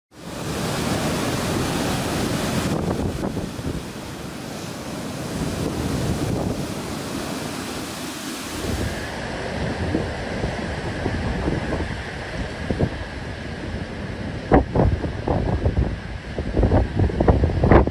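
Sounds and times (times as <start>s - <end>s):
waves crashing against a wall: 0.1s - 17.9s
wind buffeting the microphone: 0.2s - 17.9s.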